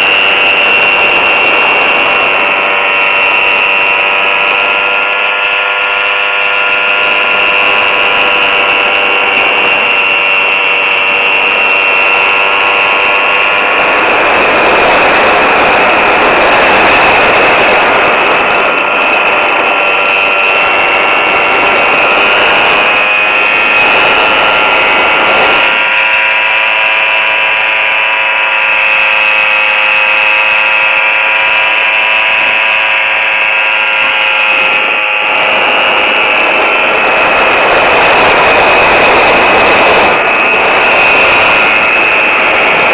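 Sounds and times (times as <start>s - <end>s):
small engine buzzing drone: 0.0s - 42.9s
wind rush on microphone: 0.0s - 42.9s.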